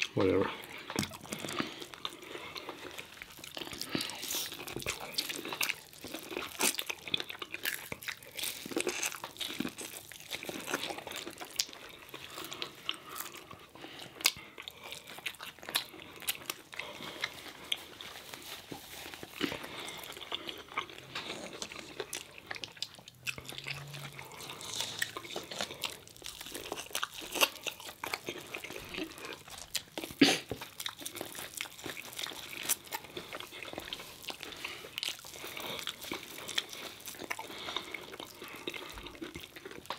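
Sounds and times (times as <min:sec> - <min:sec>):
people chewing food: 0:00.0 - 0:39.9.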